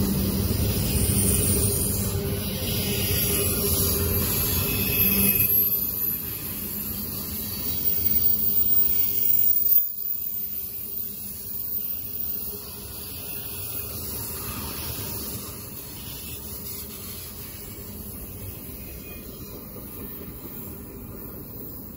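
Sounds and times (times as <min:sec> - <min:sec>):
freight train wheels on rails: 0:00.0 - 0:21.9.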